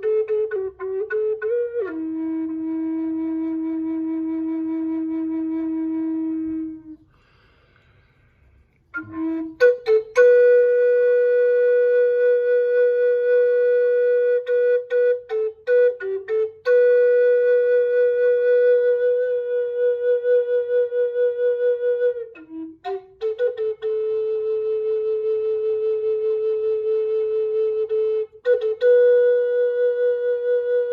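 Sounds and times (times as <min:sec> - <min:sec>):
solo flute playing: 0:00.0 - 0:07.3, 0:08.9 - 0:30.9.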